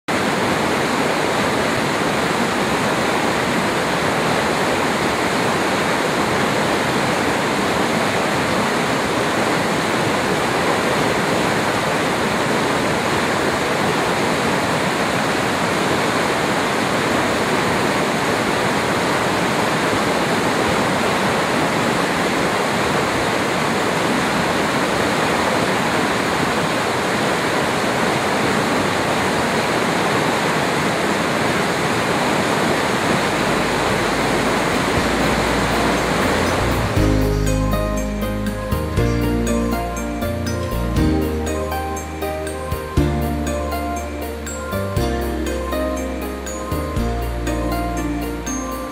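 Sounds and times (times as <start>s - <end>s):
waterfall rushing: 0.1s - 48.9s.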